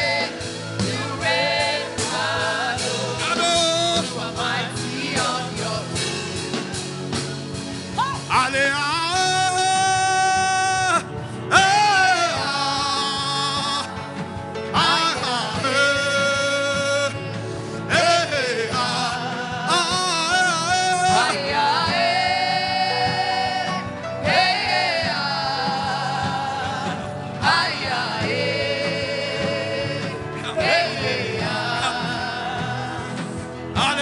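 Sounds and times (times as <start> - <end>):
musical accompaniment: 0.0 - 34.0.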